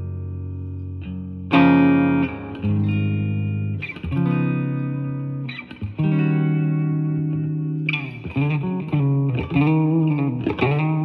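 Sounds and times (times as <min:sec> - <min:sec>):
electric guitar chords ringing: 0:00.0 - 0:11.0.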